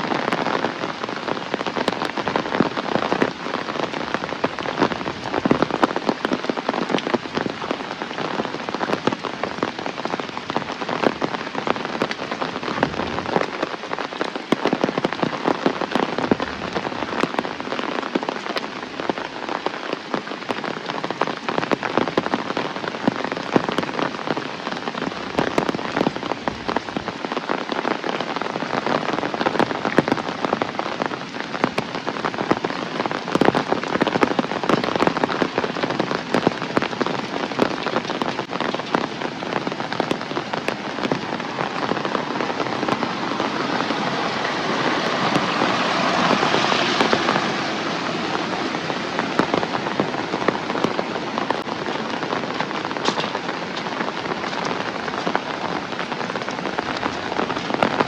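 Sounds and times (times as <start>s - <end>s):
heavy rain on hard surfaces: 0.0s - 58.0s.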